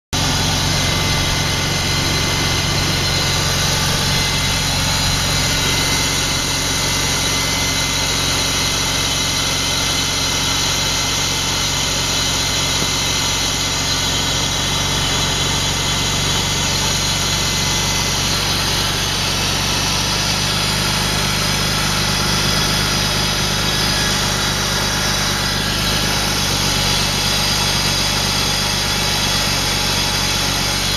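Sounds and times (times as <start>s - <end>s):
car engine rough idle: 0.1s - 30.9s.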